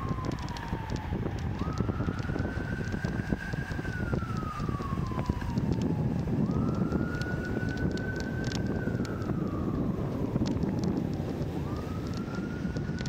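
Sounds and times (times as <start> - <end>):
siren wailing: 0.0 - 13.0
wind rumble on microphone: 0.0 - 13.0.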